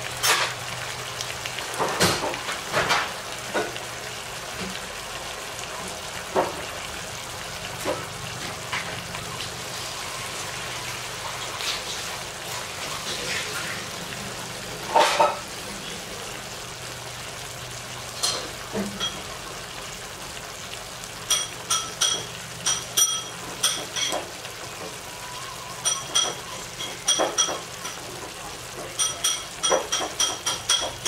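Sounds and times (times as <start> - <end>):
sauce sizzling and bubbling in pan: 0.0 - 31.0.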